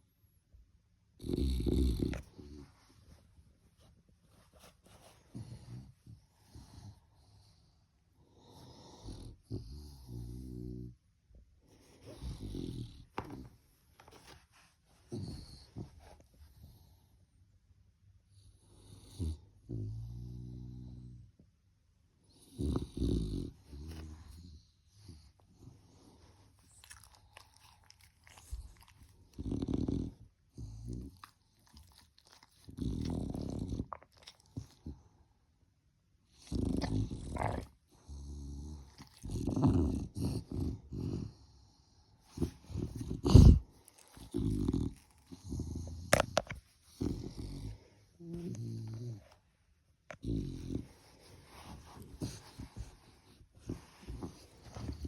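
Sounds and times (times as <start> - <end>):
puppy snoring and snuffling: 1.1 - 3.1, 4.4 - 7.7, 8.3 - 11.0, 11.7 - 17.2, 18.3 - 21.4, 22.2 - 35.2, 36.2 - 55.0.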